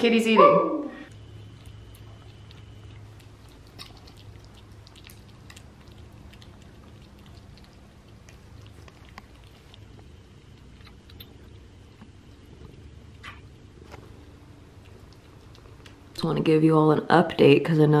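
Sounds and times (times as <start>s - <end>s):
low steady hum: 0.0s - 18.0s
kittens chewing and smacking: 1.1s - 16.5s.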